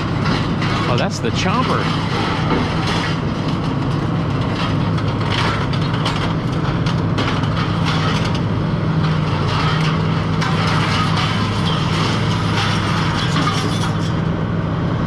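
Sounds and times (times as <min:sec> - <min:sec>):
scrap metal clanks and crunches: 0:00.0 - 0:14.3
diesel engine running: 0:00.0 - 0:15.0.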